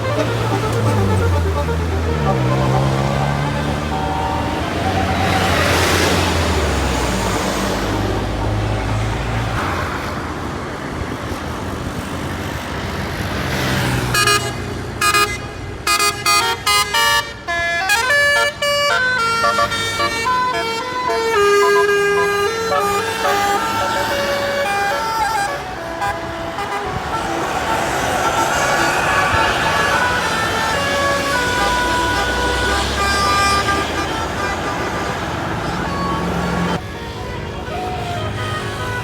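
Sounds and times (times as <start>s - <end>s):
multi-tone bus horn tune: 0.0s - 9.3s, 13.8s - 39.0s
vehicle rumble: 0.0s - 14.9s, 17.8s - 39.0s.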